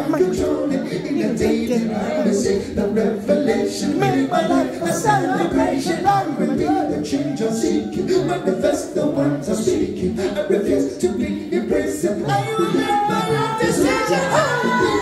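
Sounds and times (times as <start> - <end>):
man singing a cappella harmonies: 0.0 - 15.0.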